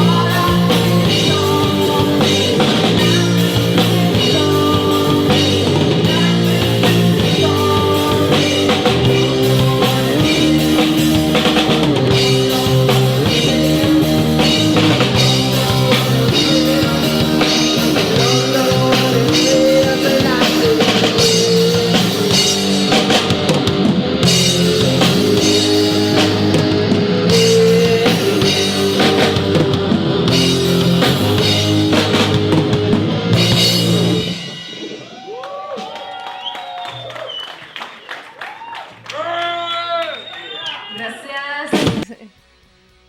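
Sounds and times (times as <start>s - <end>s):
rock band playing: 0.0s - 37.1s, 40.0s - 43.0s.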